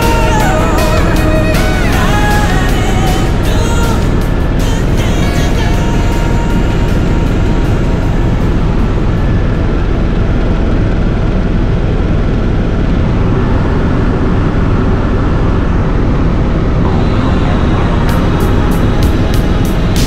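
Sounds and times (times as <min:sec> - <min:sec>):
helicopter cabin drone: 0:00.0 - 0:20.0.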